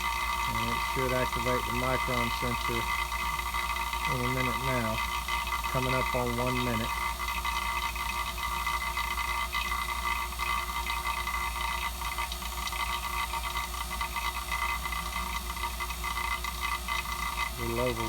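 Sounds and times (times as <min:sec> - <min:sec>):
vacuum pump running: 0:00.0 - 0:18.0.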